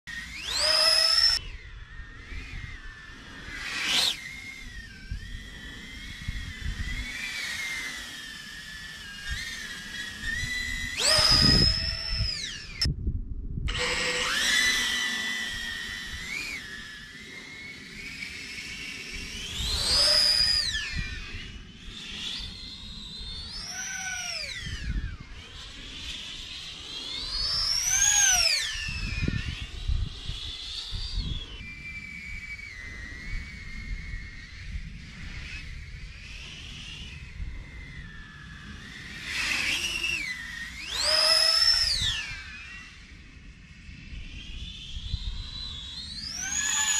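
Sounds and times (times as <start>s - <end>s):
quadcopter propeller whine: 0.0s - 46.9s.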